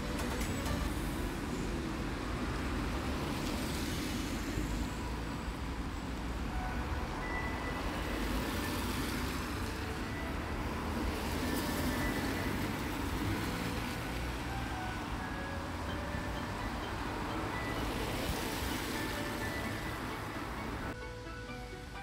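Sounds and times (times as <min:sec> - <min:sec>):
bus engine rumble: 0:00.0 - 0:22.0
street traffic: 0:00.0 - 0:22.0.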